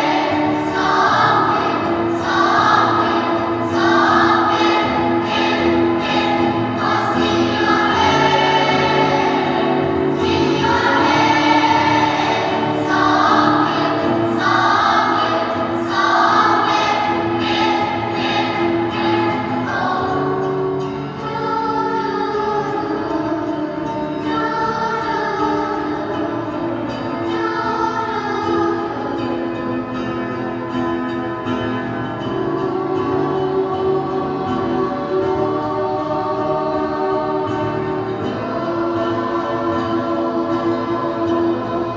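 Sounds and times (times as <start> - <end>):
choir singing in harmony: 0.0 - 41.9.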